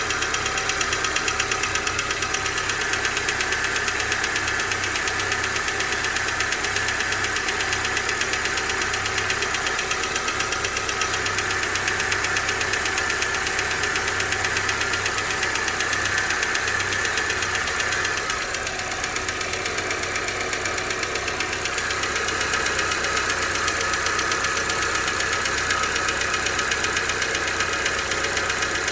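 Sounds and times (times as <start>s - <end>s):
car engine ticking knock: 0.0s - 28.9s.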